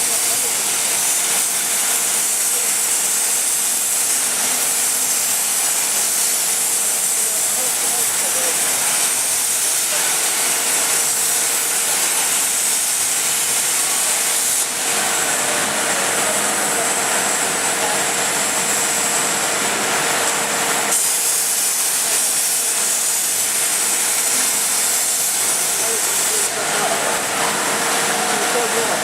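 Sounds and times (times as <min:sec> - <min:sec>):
plasma cutting torch hissing: 0:00.0 - 0:29.0.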